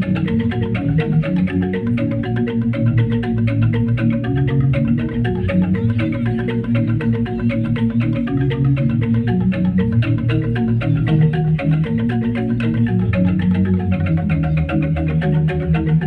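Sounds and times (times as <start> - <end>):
gamelan ensemble playing: 0.0 - 16.0.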